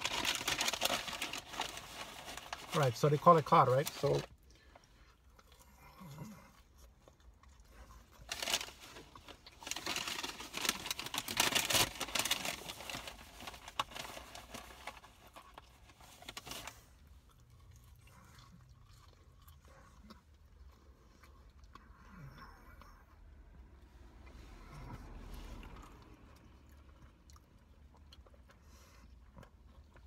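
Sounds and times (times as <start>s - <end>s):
crunchy chewing: 4.0s - 30.0s.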